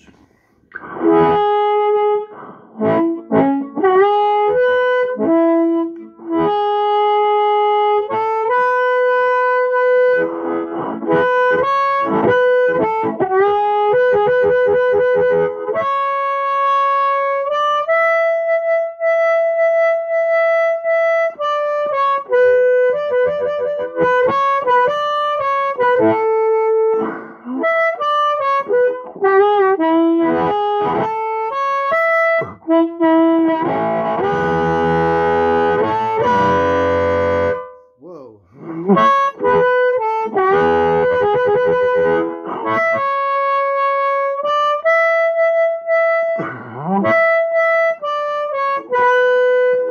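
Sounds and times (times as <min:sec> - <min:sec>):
amplified harmonica: 0:00.0 - 0:37.9, 0:38.5 - 0:49.9.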